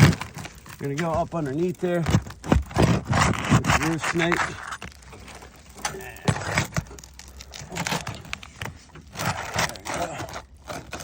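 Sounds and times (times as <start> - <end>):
metal bar scraping shingles: 0.0 - 11.0.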